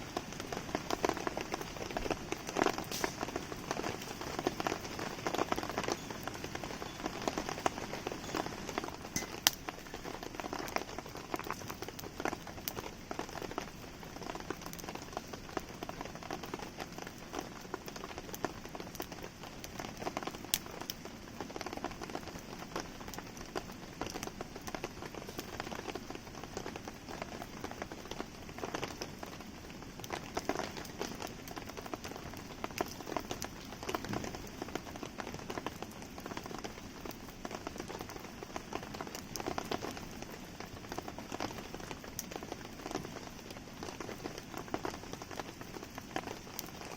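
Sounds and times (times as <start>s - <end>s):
campfire popping and crackling: 0.0s - 46.9s
rain pattering: 0.0s - 46.9s.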